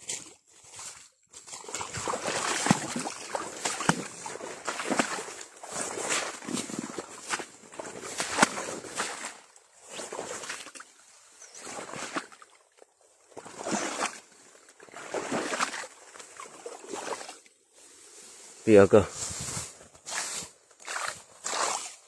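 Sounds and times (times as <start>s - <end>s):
water sloshing and splashing: 0.0s - 18.5s, 19.4s - 22.0s.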